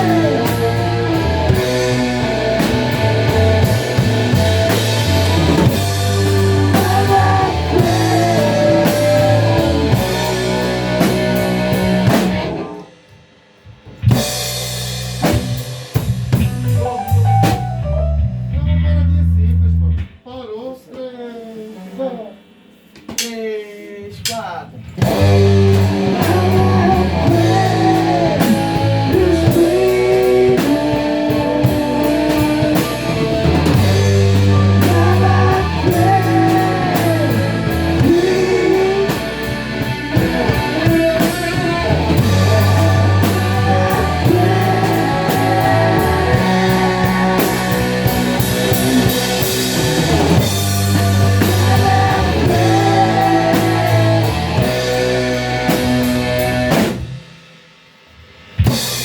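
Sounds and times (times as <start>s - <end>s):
rock band playing live: 0.0s - 19.2s, 24.2s - 59.0s.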